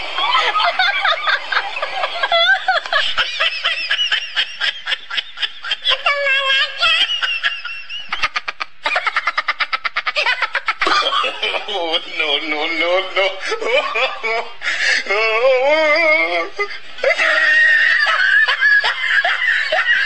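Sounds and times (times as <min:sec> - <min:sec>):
high-pitched laughing: 0:00.0 - 0:11.9, 0:13.4 - 0:20.0.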